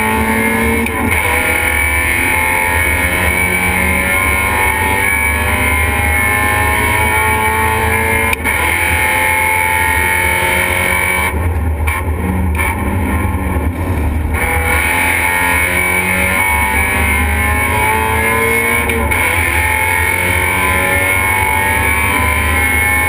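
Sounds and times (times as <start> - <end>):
race car engine pulling hard: 0.0 - 23.0.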